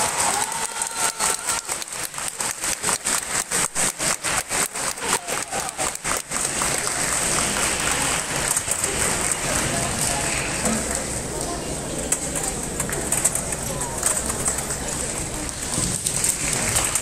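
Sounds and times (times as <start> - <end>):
spectators clapping: 0.0 - 17.0.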